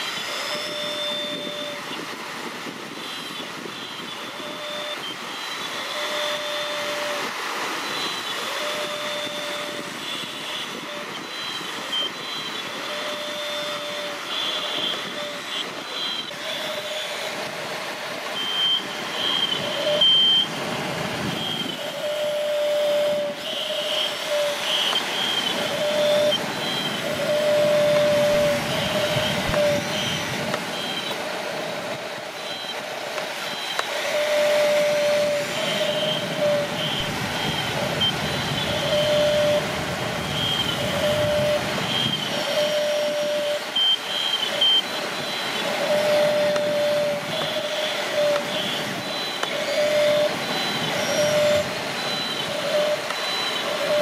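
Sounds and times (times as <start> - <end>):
electric motors whining: 0.0 - 54.0
steady rushing noise: 0.0 - 54.0.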